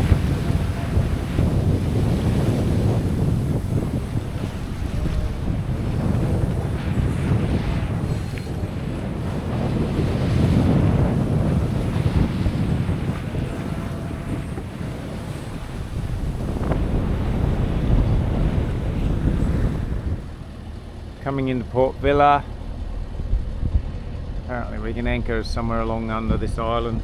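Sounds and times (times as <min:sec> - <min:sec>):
sea waves rushing: 0:00.0 - 0:27.0
wind buffeting microphone: 0:00.0 - 0:27.0.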